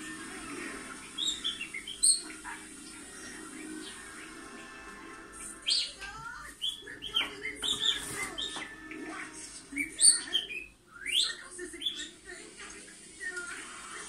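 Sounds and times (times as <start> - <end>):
budgerigar warbling: 0.3 - 4.6, 5.2 - 12.2.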